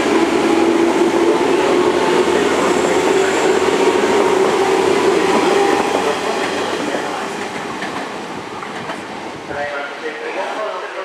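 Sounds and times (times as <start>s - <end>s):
electric train running past: 0.0s - 11.0s.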